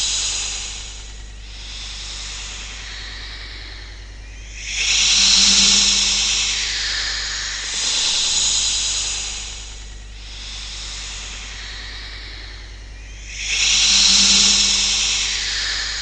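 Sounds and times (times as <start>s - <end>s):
snake hissing: 0.0s - 16.0s.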